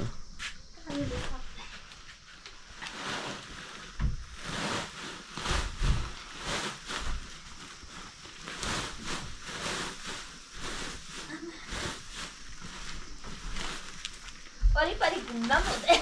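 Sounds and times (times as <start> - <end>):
sack rustling: 2.6 - 16.0
soil pouring from sack: 2.6 - 16.0.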